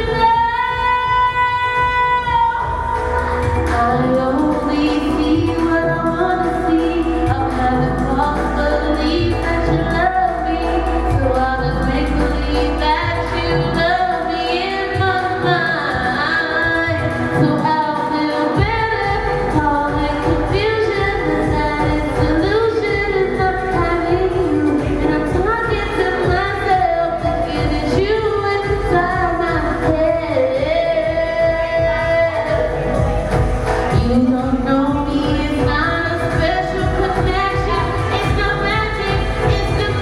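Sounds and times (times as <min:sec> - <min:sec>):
electronic pop backing: 0:00.0 - 0:40.0.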